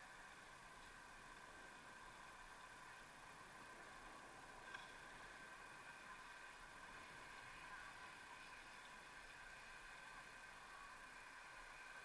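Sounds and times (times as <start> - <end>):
faint electronic hiss: 0.0 - 12.0.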